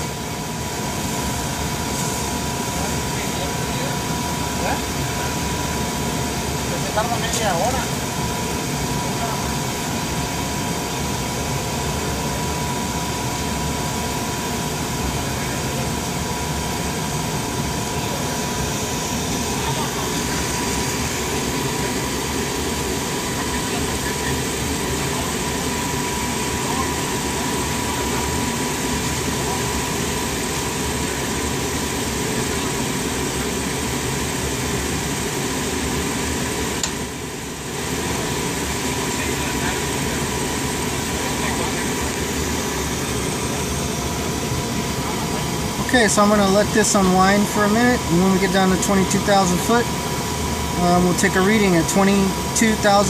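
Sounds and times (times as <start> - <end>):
running machinery hum: 0.0 - 53.0.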